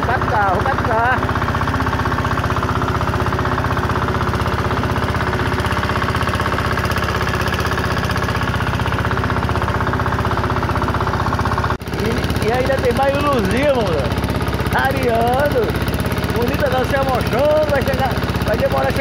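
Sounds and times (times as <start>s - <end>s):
boat engine running with knocking beat: 0.0s - 19.0s.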